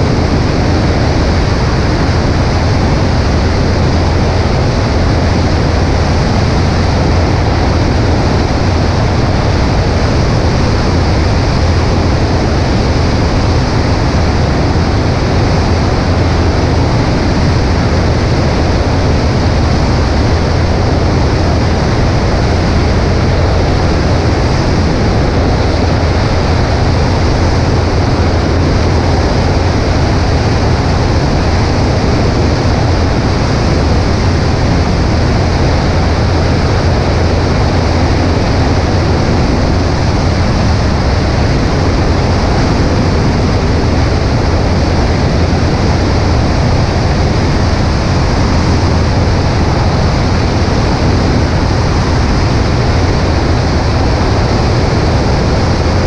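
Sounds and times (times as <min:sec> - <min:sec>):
light aircraft engine drone: 0:00.0 - 0:56.0
wind over the microphone: 0:00.0 - 0:56.0.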